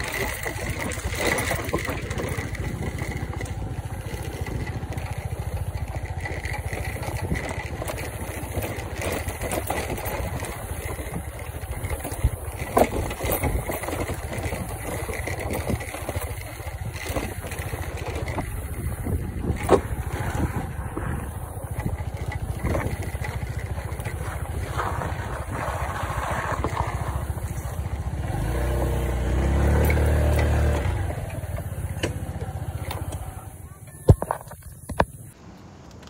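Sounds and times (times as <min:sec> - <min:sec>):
scooter engine running: 0:00.0 - 0:36.0.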